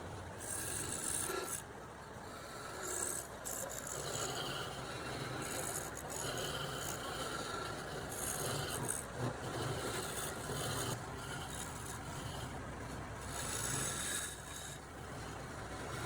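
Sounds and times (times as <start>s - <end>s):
hand tool rasping on wood: 2.3s - 12.6s, 13.2s - 16.0s.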